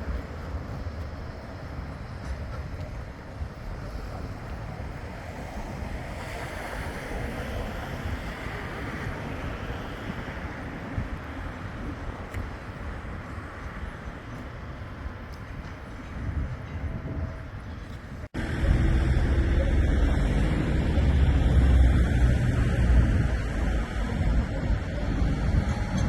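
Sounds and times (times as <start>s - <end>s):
steady rushing noise: 0.0s - 26.0s
wind buffeting microphone: 0.0s - 26.0s.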